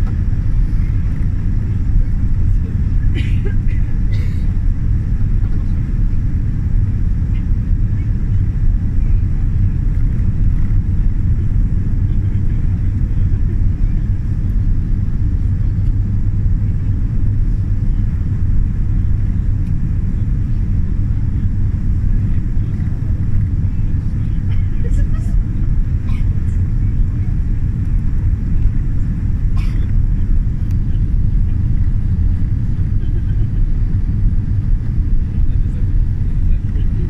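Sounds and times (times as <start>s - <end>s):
airliner cabin engine and airflow: 0.0s - 37.0s.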